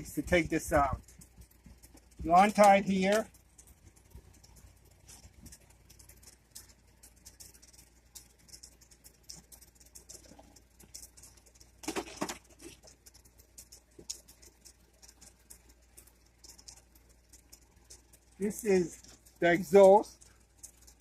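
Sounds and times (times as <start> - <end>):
clicks and rustles of handling: 0.0 - 21.0.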